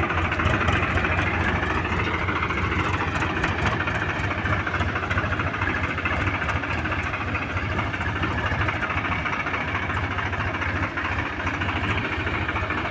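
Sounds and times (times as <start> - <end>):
tractor diesel engine chugging: 0.0 - 12.9.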